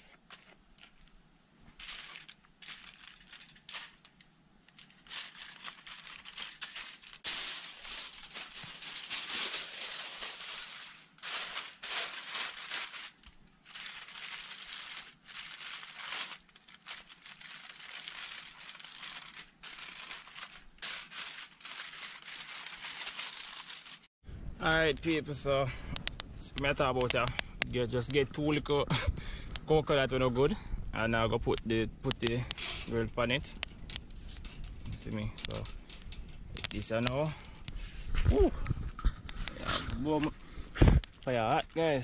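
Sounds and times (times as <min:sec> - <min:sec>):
aluminium foil crinkling: 0:00.0 - 0:24.1, 0:31.5 - 0:42.0.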